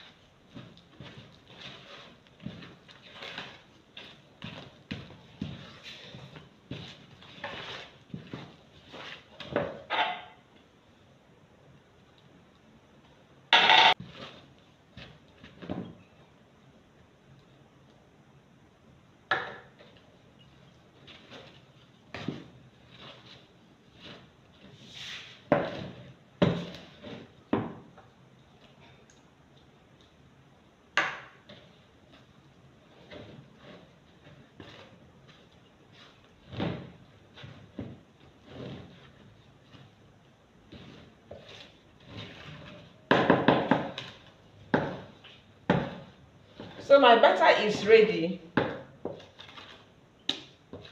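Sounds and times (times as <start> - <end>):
spatula stirring batter: 0.0 - 10.7, 11.6 - 16.3, 18.9 - 47.9.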